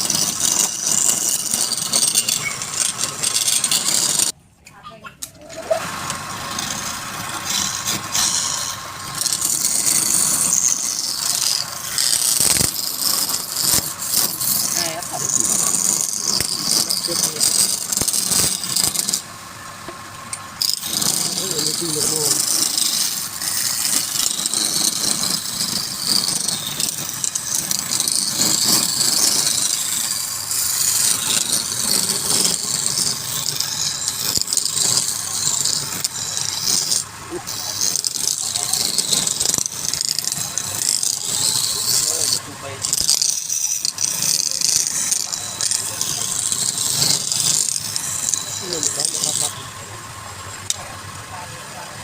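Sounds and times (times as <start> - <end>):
lathe tool scraping wood: 0.0 - 4.4, 5.5 - 49.9
faint motor hum: 0.0 - 52.0.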